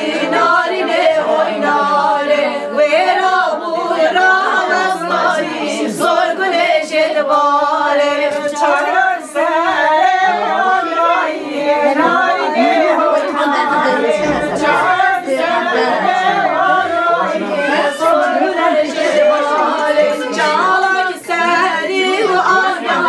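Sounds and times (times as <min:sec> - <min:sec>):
women singing unaccompanied: 0:00.0 - 0:23.0.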